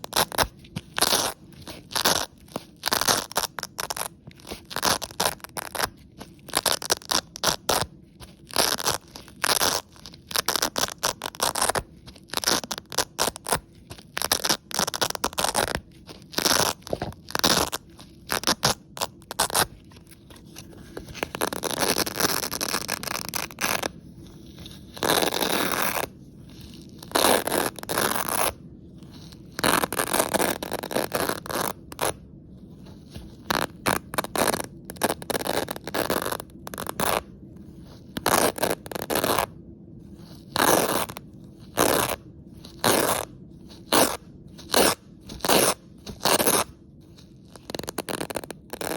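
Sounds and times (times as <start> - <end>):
velcro ripping: 0.0 - 32.2, 32.9 - 39.6, 40.2 - 48.9.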